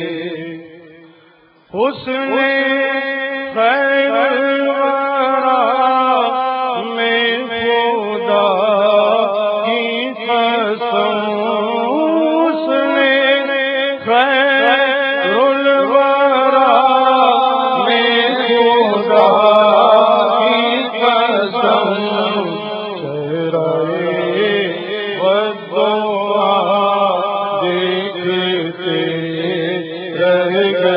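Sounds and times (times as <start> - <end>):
man singing devotional song: 0.0 - 30.9.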